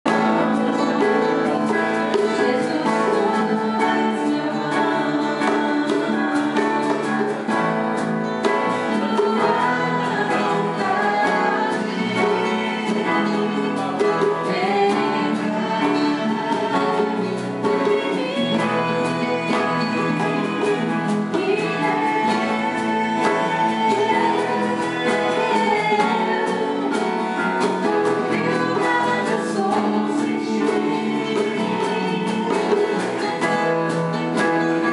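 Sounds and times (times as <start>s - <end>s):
guitar playing: 0.0s - 34.9s
singing: 0.1s - 34.9s.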